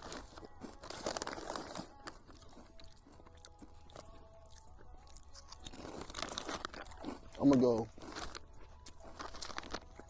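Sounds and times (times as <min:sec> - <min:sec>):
potato chips crunched and chewed: 0:00.0 - 0:10.0.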